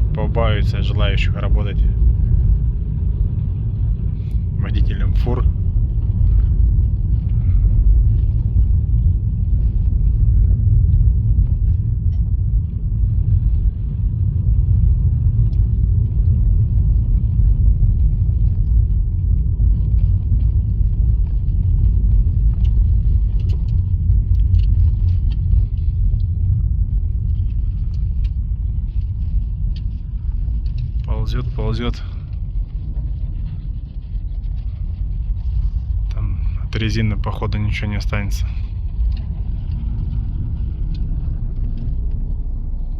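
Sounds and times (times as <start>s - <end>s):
tyre and road noise rumble: 0.0s - 42.9s.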